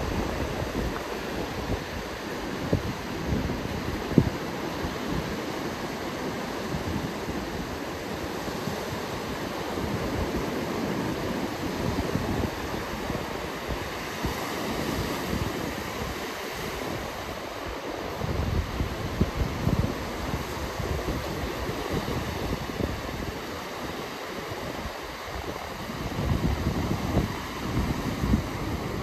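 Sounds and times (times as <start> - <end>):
surf rushing onto beach: 0.0 - 29.0
wind buffeting microphone: 0.0 - 29.0.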